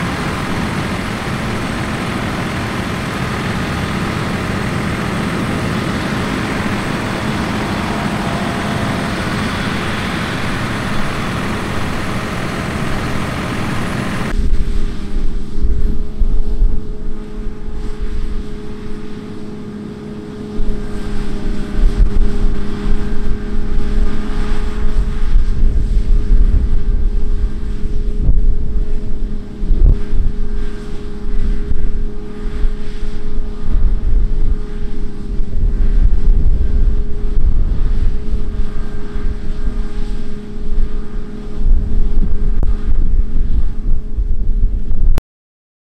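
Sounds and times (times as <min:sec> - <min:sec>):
heavy farm machinery running: 0:00.0 - 0:15.3, 0:17.2 - 0:44.7
wind buffeting microphone: 0:00.0 - 0:19.6, 0:20.4 - 0:45.2
steady engine hum: 0:00.0 - 0:45.2.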